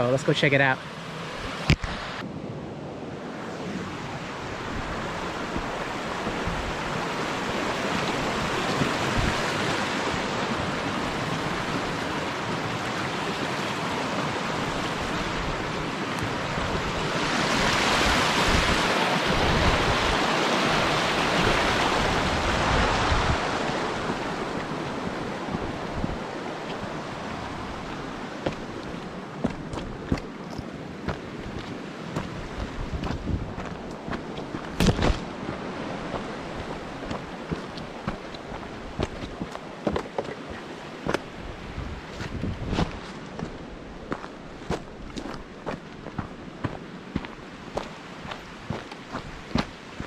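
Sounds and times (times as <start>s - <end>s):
rushing river water: 0.0s - 50.0s.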